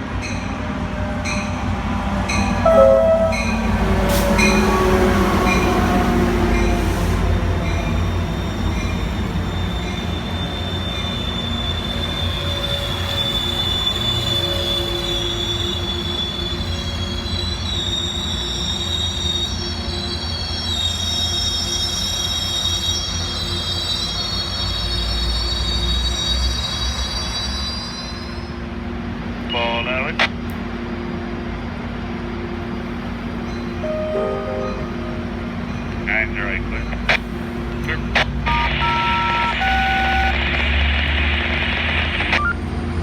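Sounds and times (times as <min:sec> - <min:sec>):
train wheel squeal: 0:00.0 - 0:28.7, 0:32.2 - 0:40.4
train rumble: 0:00.0 - 0:43.0.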